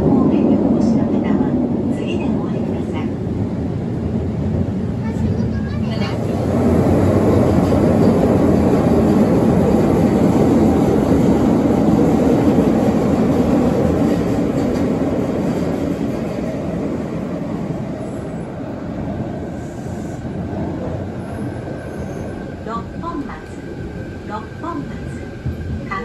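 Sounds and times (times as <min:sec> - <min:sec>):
metro train rumbling in tunnel: 0:00.0 - 0:26.0.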